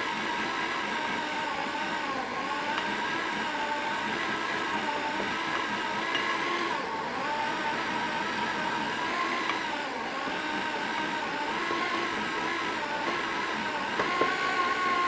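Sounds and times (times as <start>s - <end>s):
grain mill grinding: 0.0s - 15.0s
power drill whining: 0.0s - 15.0s.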